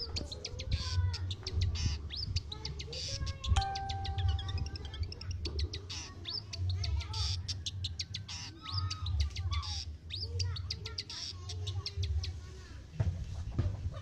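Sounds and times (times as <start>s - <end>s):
bird singing scratchy chirps: 0.0s - 12.4s.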